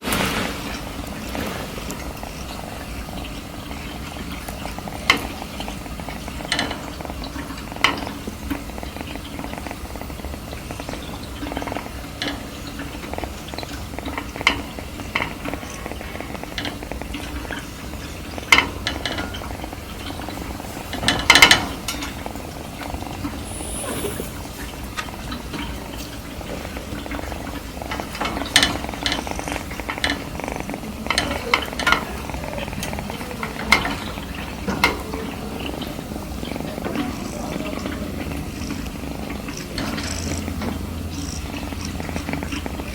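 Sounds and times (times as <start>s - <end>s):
kitten purring: 0.5s - 42.9s.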